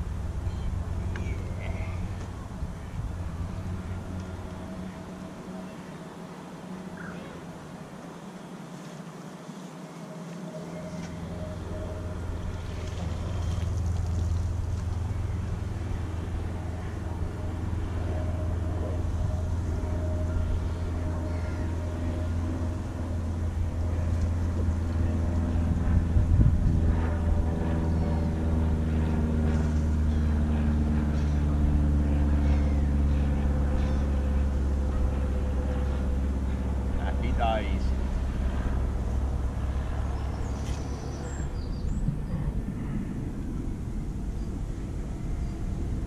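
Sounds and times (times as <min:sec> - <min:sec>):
engine drone: 0:00.0 - 0:46.0.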